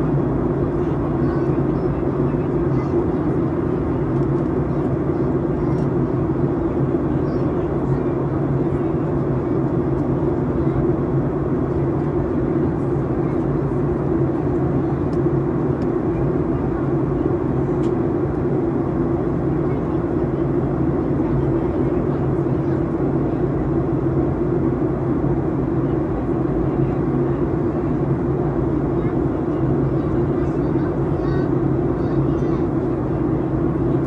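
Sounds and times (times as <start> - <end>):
airliner engines droning: 0.0 - 34.0.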